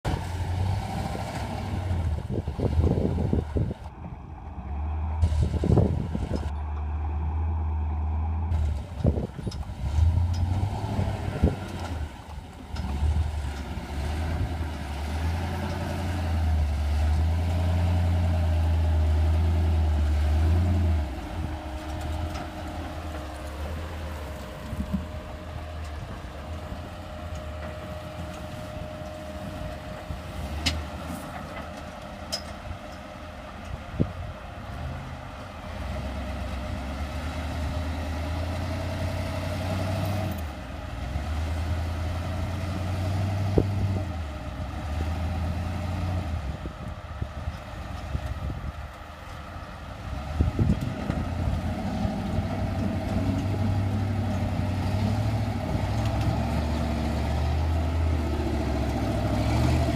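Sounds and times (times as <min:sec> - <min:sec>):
buggy engine working under load: 0:00.0 - 0:59.9.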